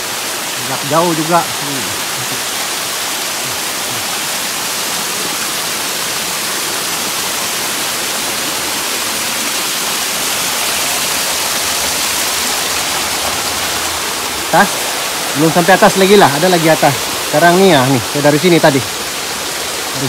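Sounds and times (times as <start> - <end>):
waterfall splashing over rocks: 0.0 - 20.0.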